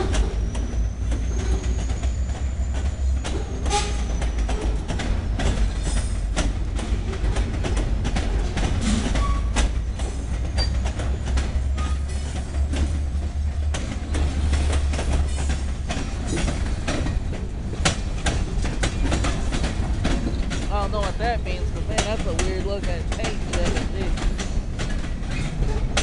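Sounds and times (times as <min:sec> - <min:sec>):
freight train rumble: 0:00.0 - 0:26.0
train wheels clacking over rail joints: 0:00.0 - 0:26.0.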